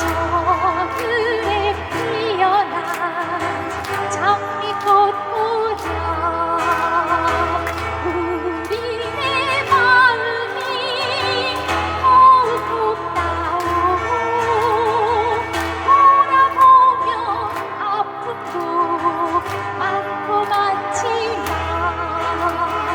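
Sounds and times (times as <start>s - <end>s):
choir singing with vibrato: 0.0s - 22.9s
guitar accompaniment: 0.0s - 22.9s
keyboard accompaniment: 0.0s - 22.9s.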